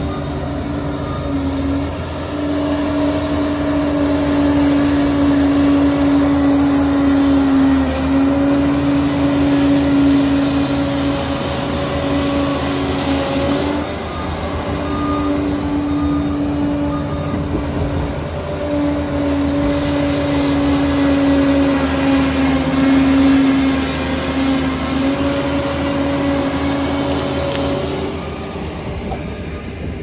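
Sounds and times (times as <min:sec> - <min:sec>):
dozer diesel engine under load: 0:00.0 - 0:30.0
wavering whine: 0:00.0 - 0:30.0.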